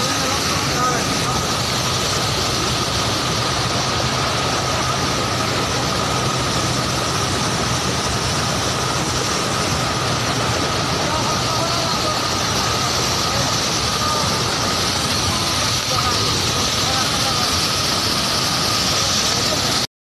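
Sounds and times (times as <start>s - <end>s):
engine running: 0.0s - 19.9s
high whine: 0.0s - 19.9s
wash of noise: 0.0s - 19.9s.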